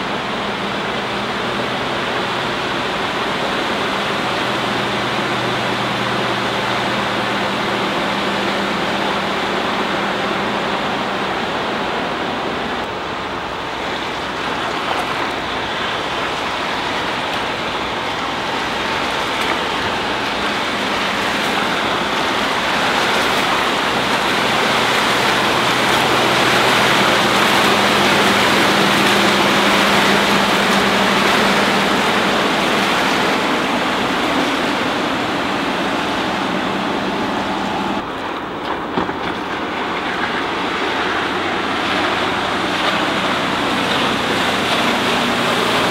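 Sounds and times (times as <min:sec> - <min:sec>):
boat engine drone: 0:00.0 - 0:45.9
hull and wake rushing: 0:00.0 - 0:45.9.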